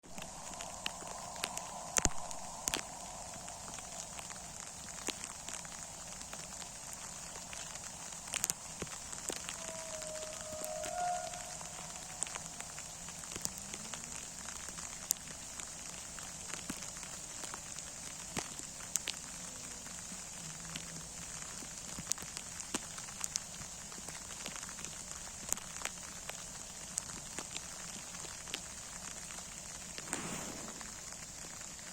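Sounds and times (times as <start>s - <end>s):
rain hiss: 0.0s - 31.9s
raindrop impacts: 0.0s - 31.9s.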